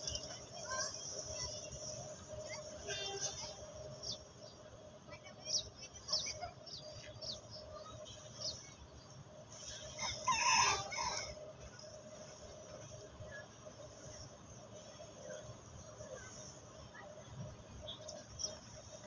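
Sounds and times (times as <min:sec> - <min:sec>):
birds chirping: 0:00.0 - 0:12.0, 0:15.2 - 0:19.0.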